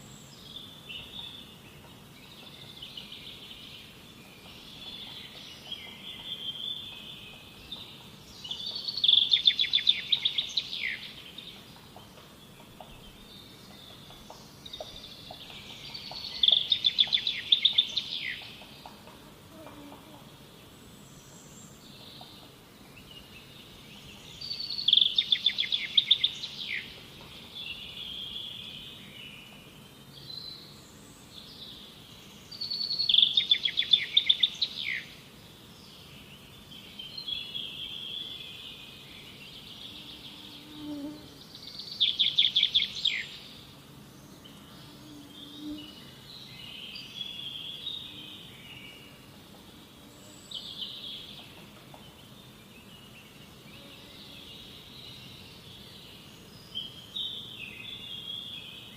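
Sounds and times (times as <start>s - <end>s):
songbird singing: 0.0s - 58.9s.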